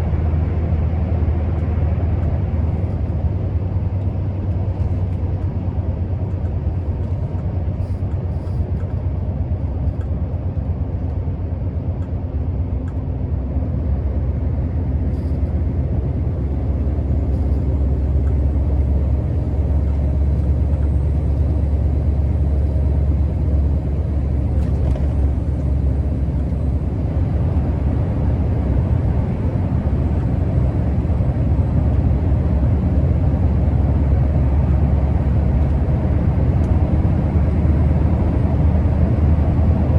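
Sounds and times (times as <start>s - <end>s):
diesel truck engine rumbling: 0.0s - 39.9s
road noise: 0.0s - 39.9s.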